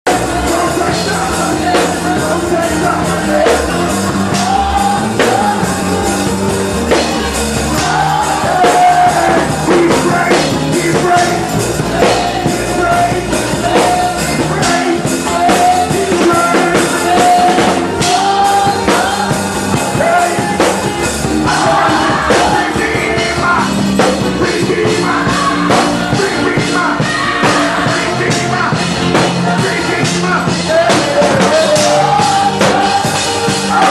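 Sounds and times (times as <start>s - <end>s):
drums: 0.0s - 33.9s
worship band music: 0.0s - 33.9s
person singing: 0.1s - 33.9s.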